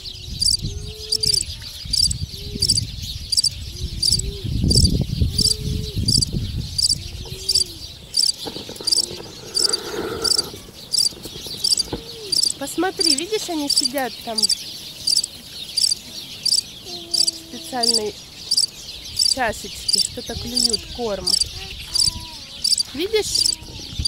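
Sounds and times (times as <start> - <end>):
insect chirping: 0.3 - 24.0
dove cooing: 0.4 - 2.8, 6.8 - 24.0.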